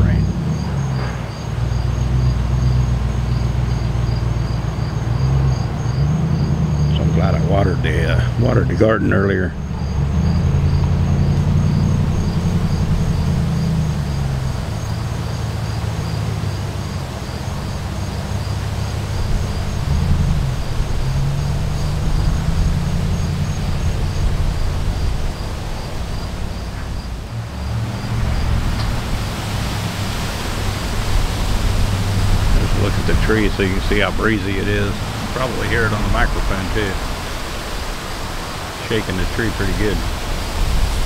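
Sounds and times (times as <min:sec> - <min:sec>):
insects chirping: 0:00.0 - 0:41.0
tree leaves rustling in wind: 0:00.0 - 0:41.0
wind buffeting microphone: 0:00.0 - 0:41.0.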